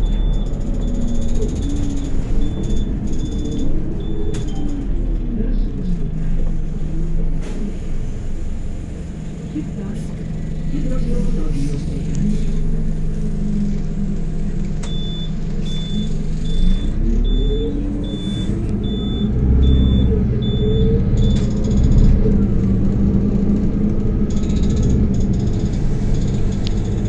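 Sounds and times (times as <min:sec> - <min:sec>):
bus engine speeding up: 0:00.0 - 0:27.0.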